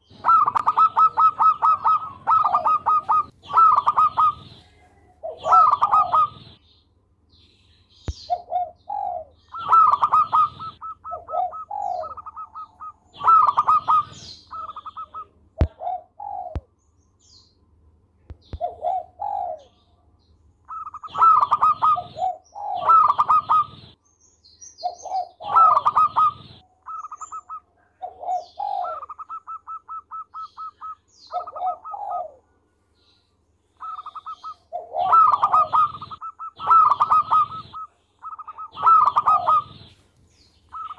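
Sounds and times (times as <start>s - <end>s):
dove cooing song: 0.0s - 6.6s, 8.0s - 16.8s, 18.4s - 24.0s, 24.8s - 40.9s.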